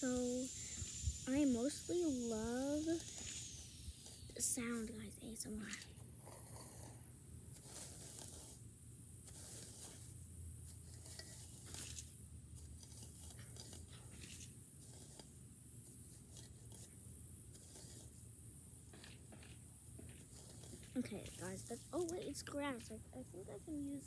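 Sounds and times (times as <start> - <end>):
hand cultivator raking grass and leaves: 0.0 - 24.0.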